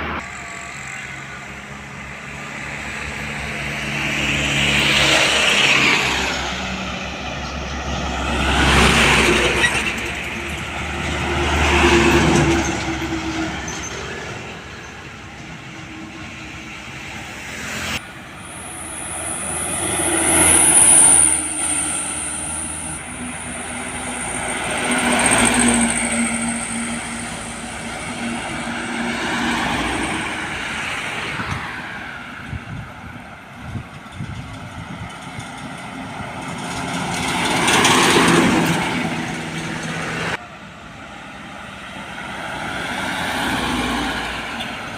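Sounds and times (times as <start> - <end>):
heavy trucks driving past: 0.0 - 44.9.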